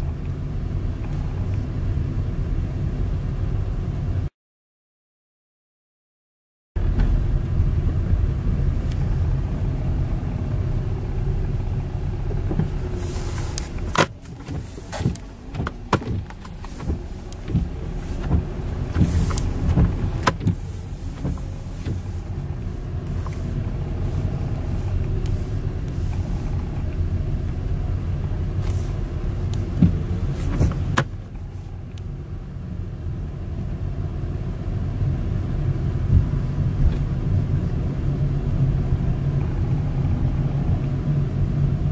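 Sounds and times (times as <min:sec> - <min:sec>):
engine and road rumble: 0:00.0 - 0:04.3, 0:06.8 - 0:41.9.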